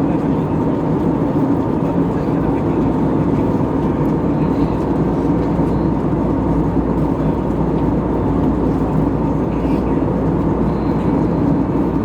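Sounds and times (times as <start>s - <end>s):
airplane cabin engine and airflow: 0.0s - 12.0s.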